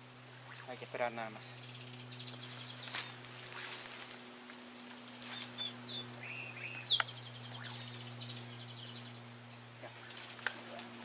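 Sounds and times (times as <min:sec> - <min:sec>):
steady low hum: 0:00.0 - 0:11.0
small birds chirping: 0:00.3 - 0:11.0.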